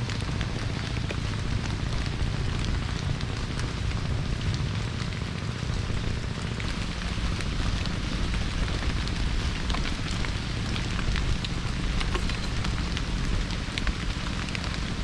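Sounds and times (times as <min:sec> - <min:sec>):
heavy rain on a tarp: 0:00.0 - 0:11.5, 0:12.1 - 0:15.0.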